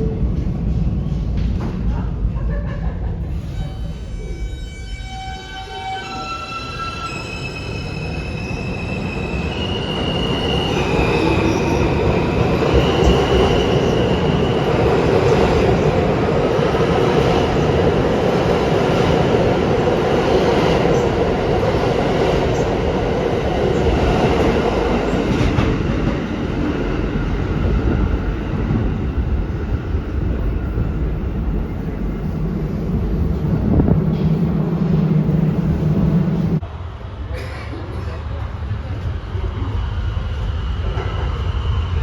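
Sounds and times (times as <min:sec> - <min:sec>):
subway train wheels rumbling: 0:00.0 - 0:42.0.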